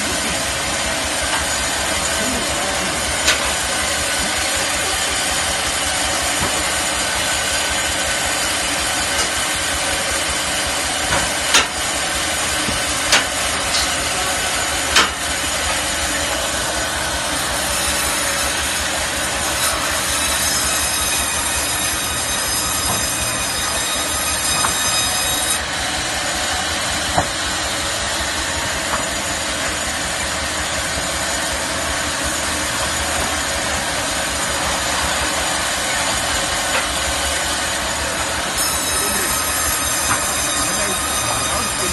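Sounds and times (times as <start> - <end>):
band saw cutting log: 0.0 - 41.9.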